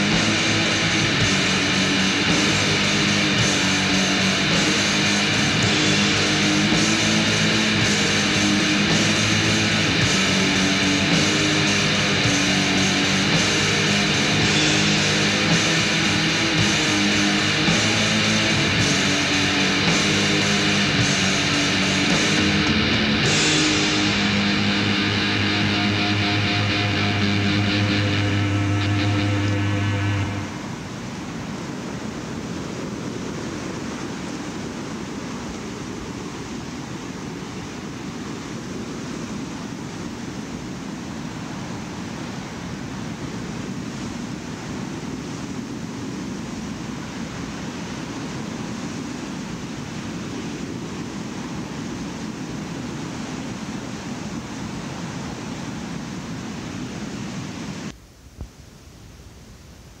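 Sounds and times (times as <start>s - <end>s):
faint tape hiss: 0.0s - 60.0s
steady rushing noise: 0.0s - 60.0s.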